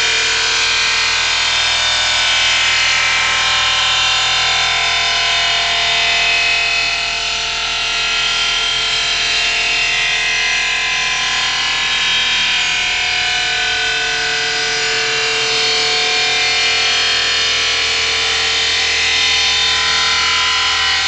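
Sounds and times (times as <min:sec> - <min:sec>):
machine grinding stone with whine: 0:00.0 - 0:21.0.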